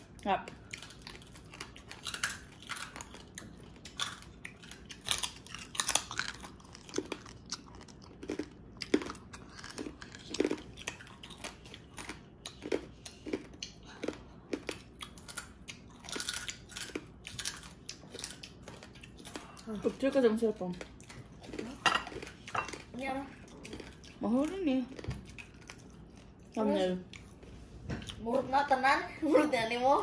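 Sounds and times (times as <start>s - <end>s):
crunching and chewing crispy food: 0.0s - 28.2s.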